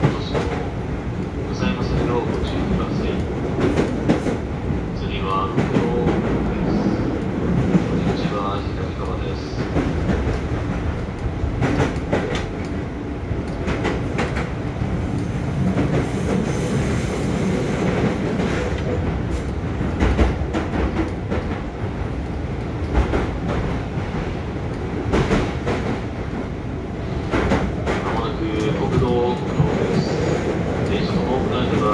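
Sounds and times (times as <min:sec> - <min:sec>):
rail joint clicks: 0:00.0 - 0:31.9
train wheels rumbling on rail: 0:00.0 - 0:31.9.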